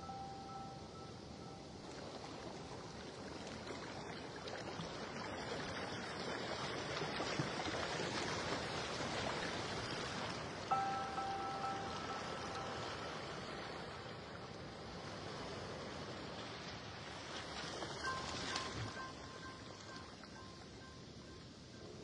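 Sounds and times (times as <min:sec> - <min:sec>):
underwater rushing water: 0:01.2 - 0:22.0.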